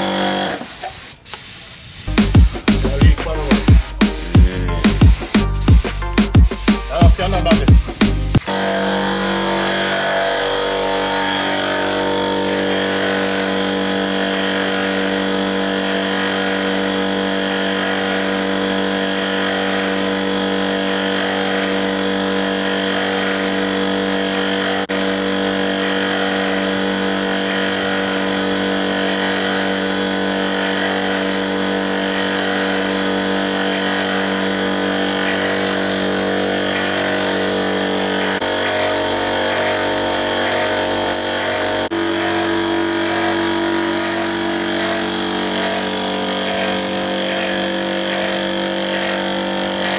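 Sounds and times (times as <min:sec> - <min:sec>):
spray gun hissing: 0:00.0 - 0:08.6, 0:09.9 - 0:38.4, 0:40.6 - 0:41.9, 0:43.9 - 0:49.9
air compressor humming: 0:00.0 - 0:49.9.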